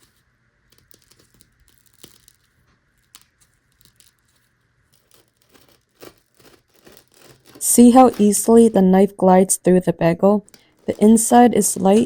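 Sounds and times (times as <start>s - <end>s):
bagel crust crackling: 0.0s - 9.4s, 10.4s - 12.0s.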